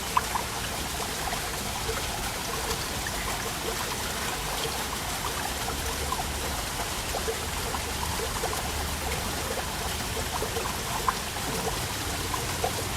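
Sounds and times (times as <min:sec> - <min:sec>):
small splashes and trickles: 0:00.0 - 0:12.9
waterfall rushing: 0:00.0 - 0:12.9.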